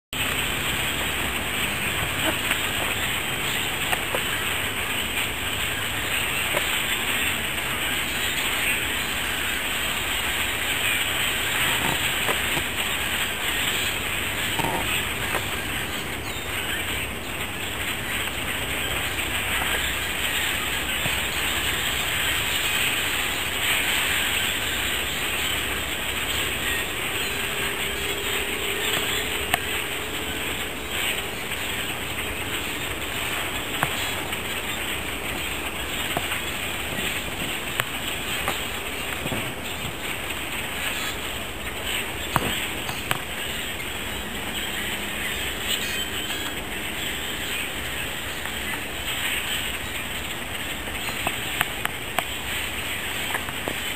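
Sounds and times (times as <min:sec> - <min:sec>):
flock of grackles calling: 0:00.2 - 0:53.9.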